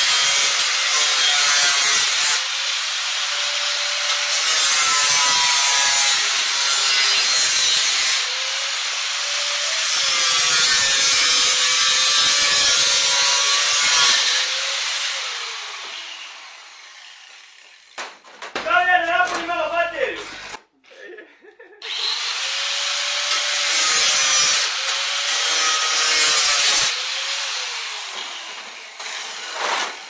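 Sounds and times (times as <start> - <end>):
angle grinder cutting steel: 0.0 - 18.0, 20.0 - 20.6, 21.8 - 30.0.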